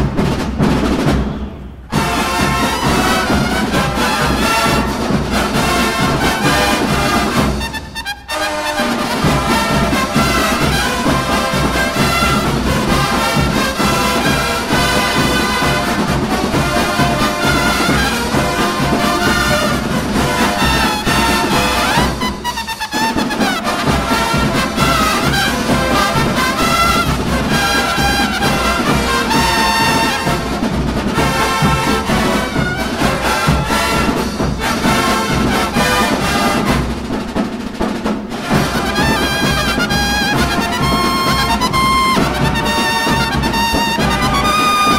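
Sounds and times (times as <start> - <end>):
marching drum beat: 0.0 - 44.9
brass bugles playing: 1.1 - 44.9.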